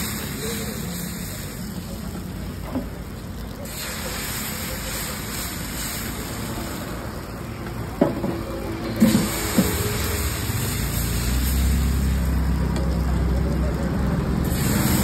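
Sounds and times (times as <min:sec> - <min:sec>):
batter sizzling on a hot griddle: 0:00.0 - 0:15.0.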